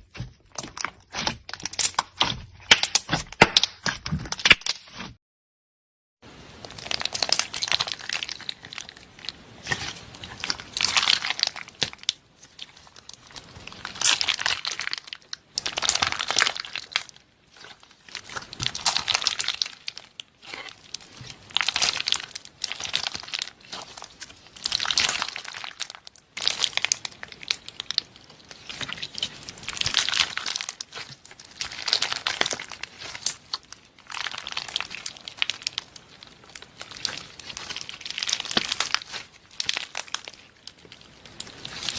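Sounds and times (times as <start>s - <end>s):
slime squeezed by hand crackling: 6.8s - 41.9s.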